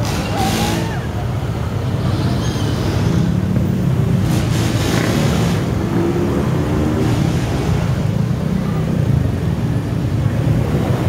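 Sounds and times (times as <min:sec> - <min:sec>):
motorcycle engines low hum: 0:00.0 - 0:11.0.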